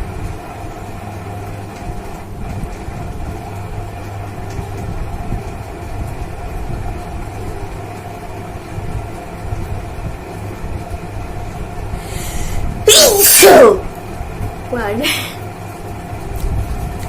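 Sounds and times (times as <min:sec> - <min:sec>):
constant low hum: 0:00.0 - 0:17.0
steady mechanical rumble: 0:00.0 - 0:17.0.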